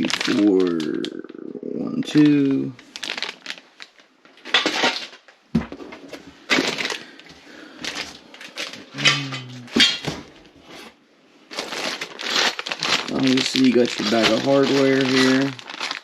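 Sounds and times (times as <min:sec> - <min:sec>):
packing material rustling: 0:00.0 - 0:01.1, 0:02.1 - 0:16.0.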